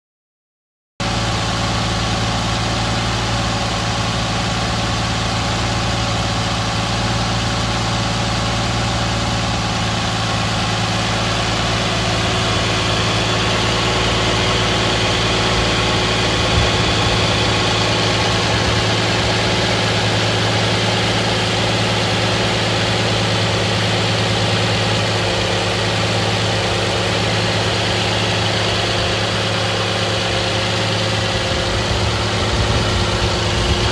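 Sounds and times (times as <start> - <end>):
car engine idling: 1.0 - 33.9.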